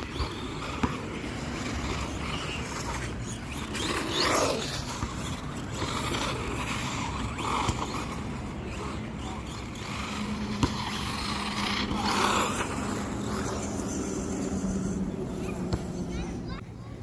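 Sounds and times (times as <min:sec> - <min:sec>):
toy car running noise: 0:00.0 - 0:16.6.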